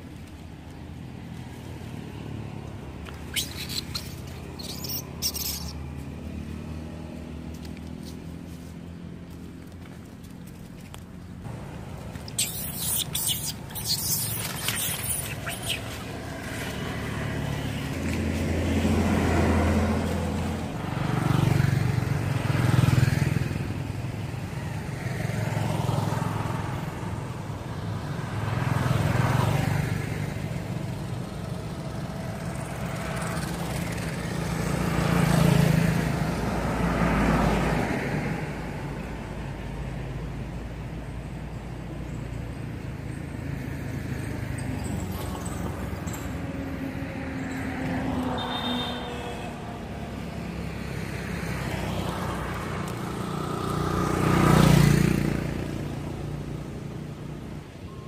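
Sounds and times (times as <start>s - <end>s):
vehicles passing with low rumble: 0.0s - 58.0s.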